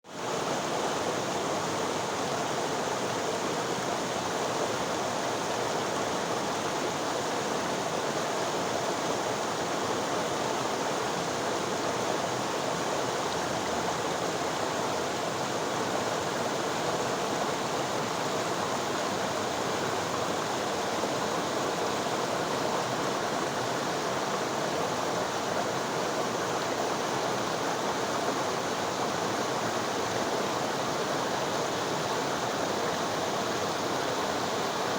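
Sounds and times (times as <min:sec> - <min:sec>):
river water rushing: 0:00.1 - 0:34.9.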